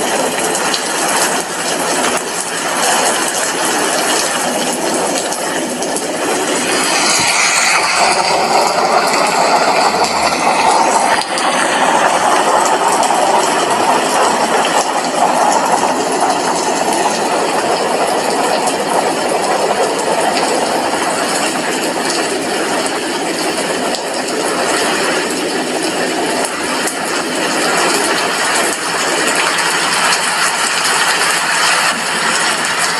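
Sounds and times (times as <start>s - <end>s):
rain pattering on window glass: 0.0s - 32.9s.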